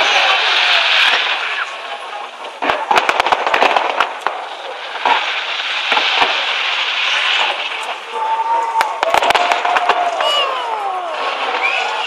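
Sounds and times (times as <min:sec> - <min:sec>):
fireworks cracks and bangs: 0:00.0 - 0:12.0
fireworks hiss: 0:00.0 - 0:12.0.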